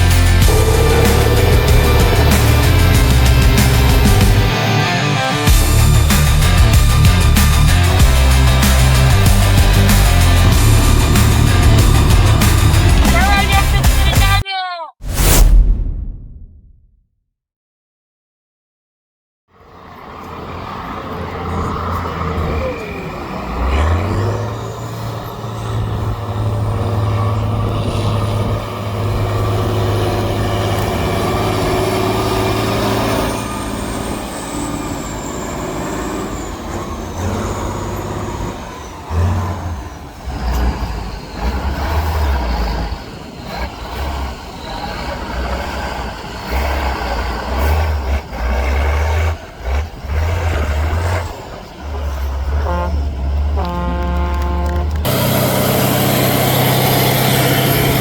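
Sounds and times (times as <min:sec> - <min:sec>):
diesel truck engine revving: 0:00.0 - 0:14.4, 0:19.5 - 0:58.0.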